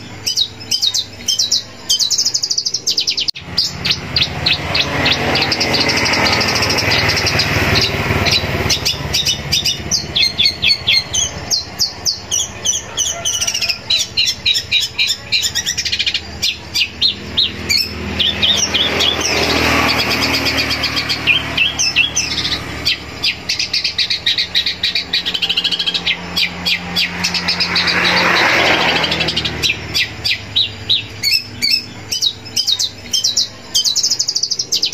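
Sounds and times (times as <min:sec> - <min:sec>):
shrike singing: 0:00.0 - 0:34.9.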